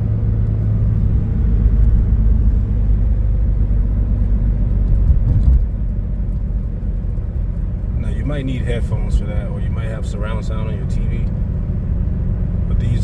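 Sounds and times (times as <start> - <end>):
tire road noise rumble: 0.0 - 13.0.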